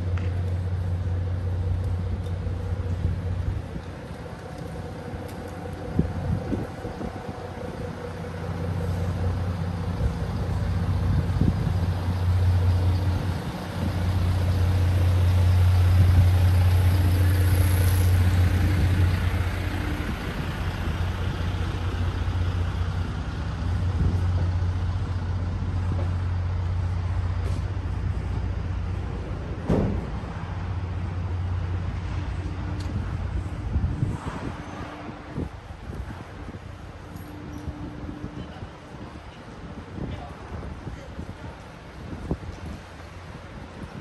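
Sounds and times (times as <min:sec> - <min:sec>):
large vehicle engine humming: 0:00.0 - 0:44.0.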